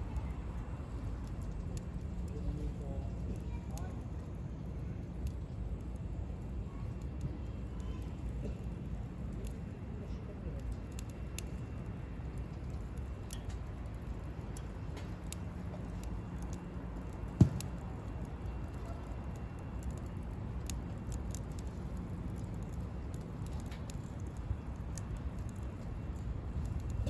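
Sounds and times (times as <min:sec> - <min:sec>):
campfire crackling: 0:00.0 - 0:27.0
low steady rumble: 0:00.0 - 0:27.0.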